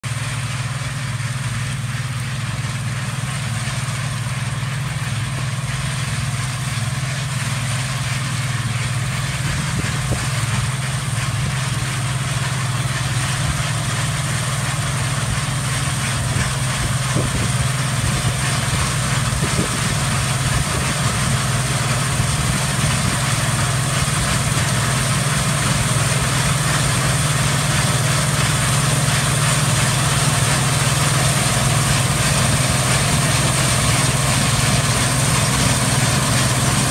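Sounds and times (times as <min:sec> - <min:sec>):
combine harvester engine hum: 0:00.0 - 0:36.9
harvester machinery noise: 0:00.0 - 0:36.9.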